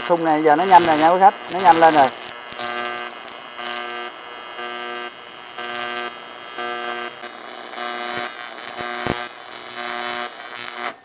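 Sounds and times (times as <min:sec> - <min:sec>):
pulsing buzzing tone: 0:00.0 - 0:11.0
welding arc crackling hiss: 0:00.0 - 0:11.0.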